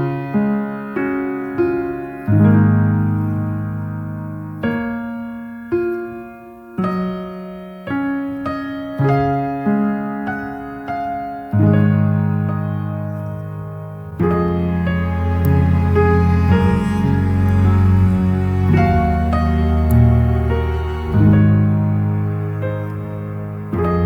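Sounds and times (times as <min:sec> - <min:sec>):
slow gentle piano music: 0:00.0 - 0:24.0.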